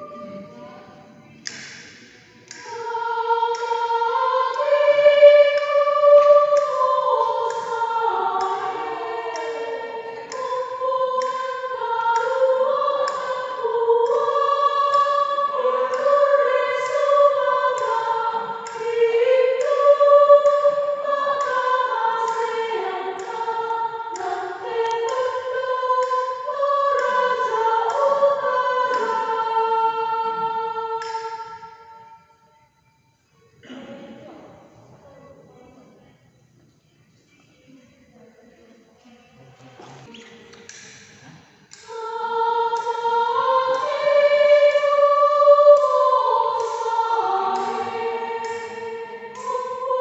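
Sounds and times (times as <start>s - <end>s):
mixed choir singing: 0.0s - 32.8s, 39.2s - 50.0s.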